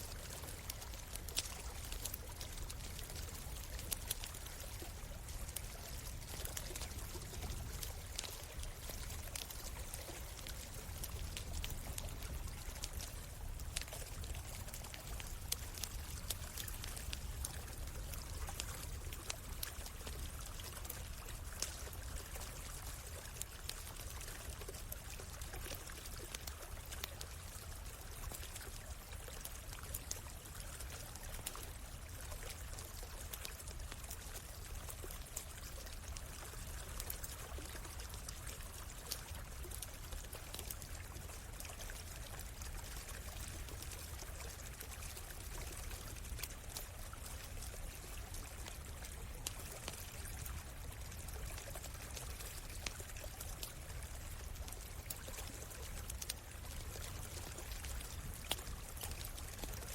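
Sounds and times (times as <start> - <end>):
campfire crackling: 0.0 - 59.9
stream running: 0.0 - 59.9.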